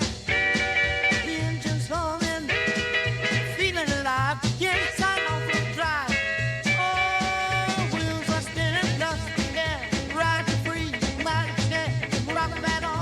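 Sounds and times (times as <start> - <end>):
upbeat ska music: 0.0 - 13.0.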